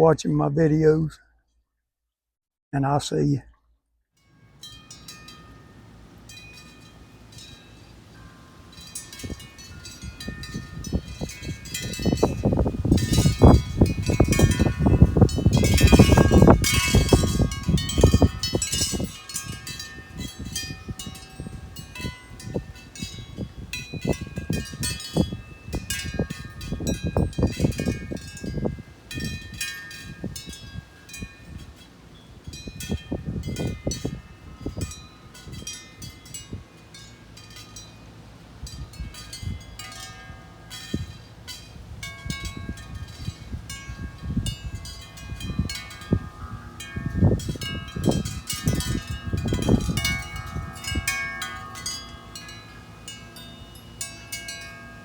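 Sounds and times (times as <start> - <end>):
wind chimes ringing: 4.2 - 55.0.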